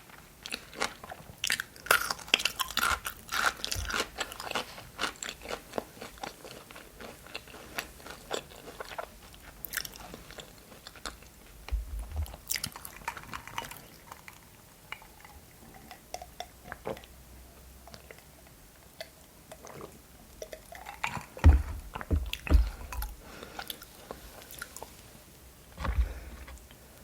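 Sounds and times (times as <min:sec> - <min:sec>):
crunching and chewing crisp food: 0:00.0 - 0:27.0.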